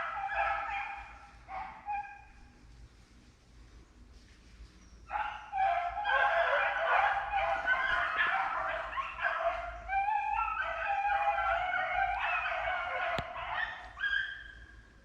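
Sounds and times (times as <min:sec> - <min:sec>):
hounds baying: 0:00.0 - 0:02.5, 0:05.1 - 0:14.8.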